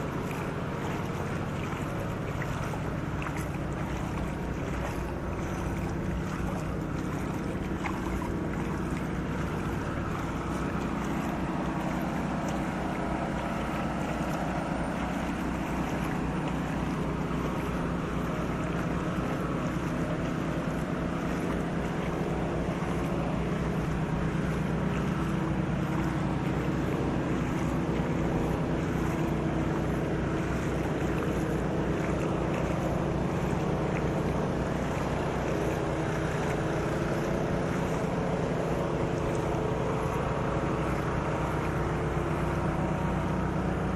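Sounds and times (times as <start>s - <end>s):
constant wash of noise: 0.0s - 43.9s
steady engine hum: 0.0s - 43.9s.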